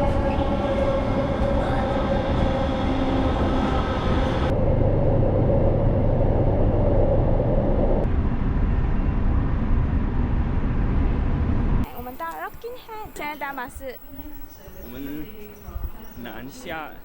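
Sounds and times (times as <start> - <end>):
electric train whine: 0.0 - 17.0
train low rumble: 0.0 - 17.0.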